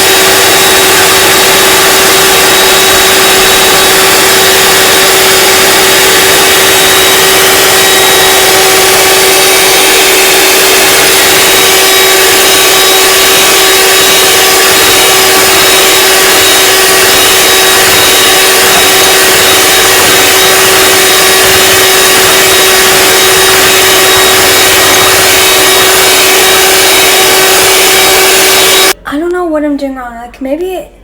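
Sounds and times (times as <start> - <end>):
electric mixer running: 0.0 - 29.0.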